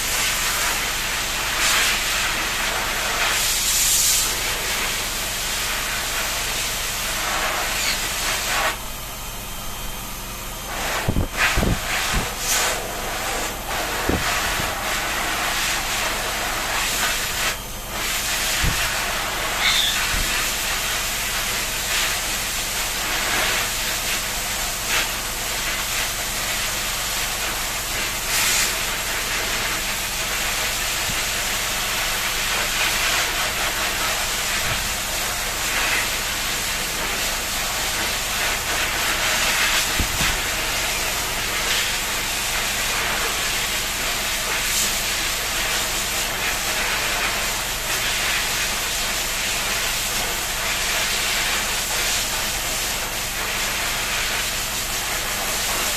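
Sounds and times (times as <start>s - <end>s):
shower spray hissing: 0.0s - 8.8s, 10.7s - 55.9s.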